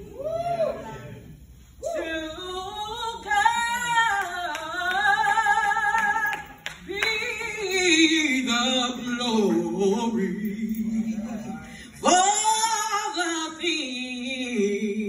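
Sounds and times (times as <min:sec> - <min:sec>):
woman singing gospel solo: 0:01.8 - 0:15.0.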